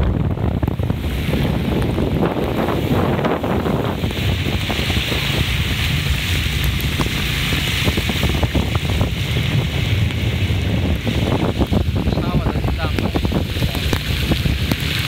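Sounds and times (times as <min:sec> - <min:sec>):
rain falling: 0:00.0 - 0:15.0
wind buffeting microphone: 0:00.0 - 0:15.0.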